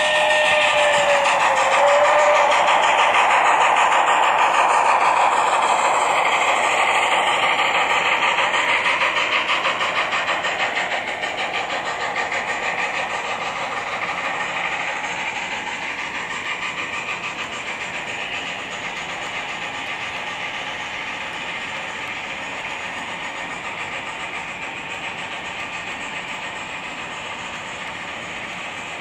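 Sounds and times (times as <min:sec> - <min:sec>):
model train wagons rolling on track: 0:00.0 - 0:29.0
steam locomotive sound from speaker: 0:00.0 - 0:29.0.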